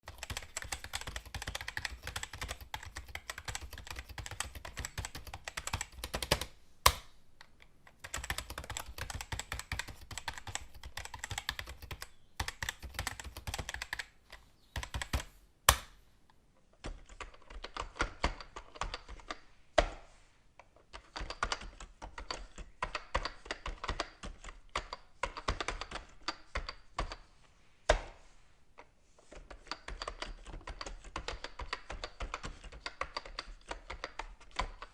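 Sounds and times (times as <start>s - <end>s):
fast keyboard typing: 0.0s - 6.5s, 8.0s - 15.3s, 16.9s - 19.4s, 21.0s - 27.2s, 29.4s - 34.9s.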